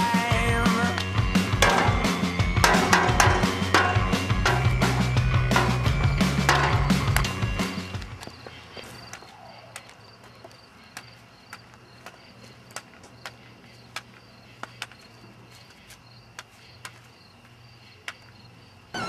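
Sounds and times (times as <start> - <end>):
cricket chirping: 1.1 - 19.0.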